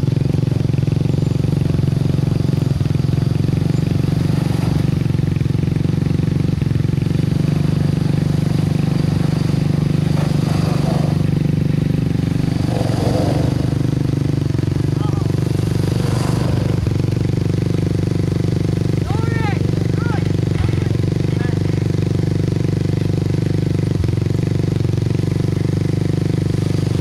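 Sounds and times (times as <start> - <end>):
truck engine at low revs: 0.0 - 27.0.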